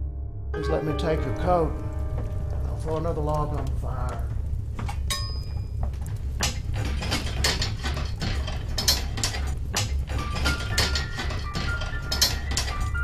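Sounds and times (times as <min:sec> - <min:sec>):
low hum: 0:00.0 - 0:13.0
wood fire crackling: 0:00.6 - 0:13.0.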